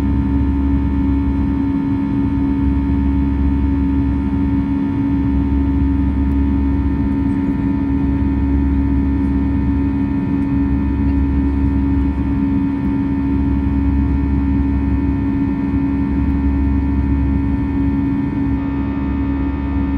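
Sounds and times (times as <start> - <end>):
airplane cabin drone: 0.0 - 19.9.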